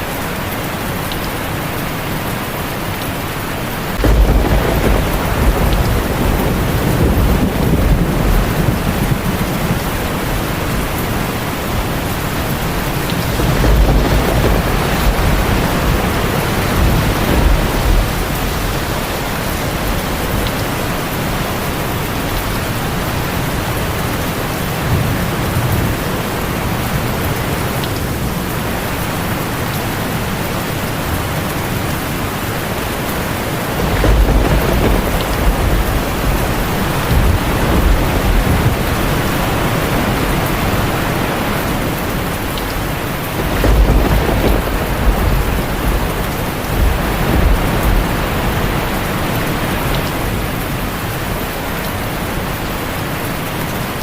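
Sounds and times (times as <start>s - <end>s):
heavy rain on a tin roof: 0.0s - 54.0s
thunder rolling: 3.9s - 29.7s, 31.0s - 52.6s.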